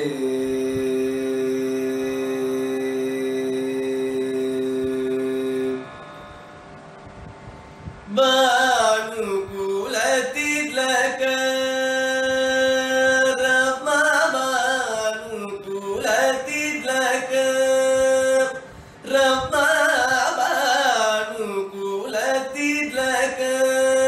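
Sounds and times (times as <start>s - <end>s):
classical indian vocal melody: 0.0s - 24.0s.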